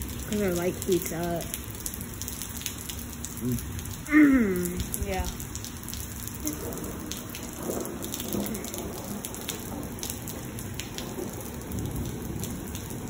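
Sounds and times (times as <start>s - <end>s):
heavy rain on pavement: 0.0s - 13.0s
sharp drips ticking: 0.0s - 13.0s.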